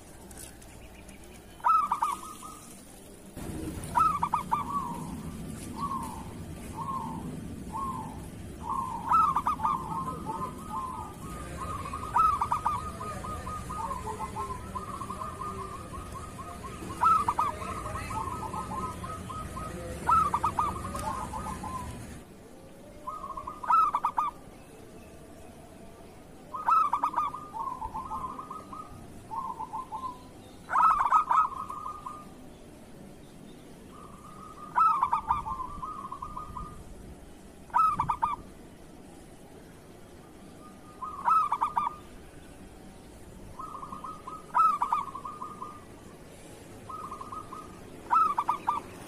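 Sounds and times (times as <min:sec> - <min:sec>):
low background hum: 0:00.0 - 0:49.0
dove cooing: 0:01.5 - 0:24.5, 0:26.4 - 0:32.5, 0:33.9 - 0:37.0, 0:37.7 - 0:38.6, 0:40.6 - 0:42.8, 0:43.4 - 0:49.0.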